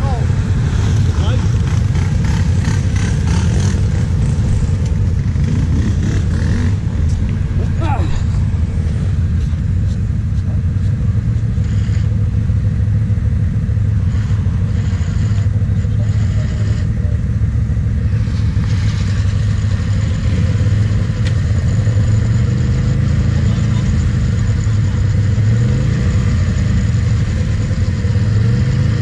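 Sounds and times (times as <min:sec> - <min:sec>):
quad engine revving: 0:00.0 - 0:09.5, 0:10.5 - 0:12.3, 0:13.9 - 0:29.0
quad engine idling: 0:00.0 - 0:29.0.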